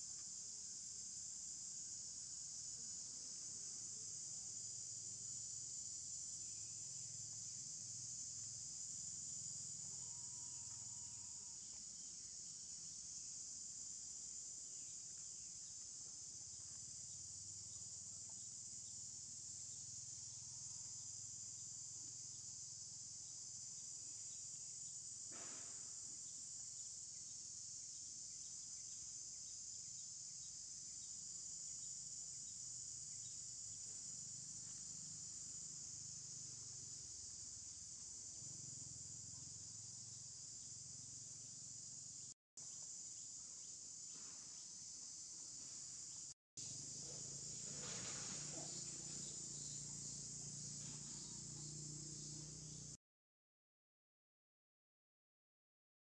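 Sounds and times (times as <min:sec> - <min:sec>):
insect chorus drone: 0:00.0 - 0:53.0.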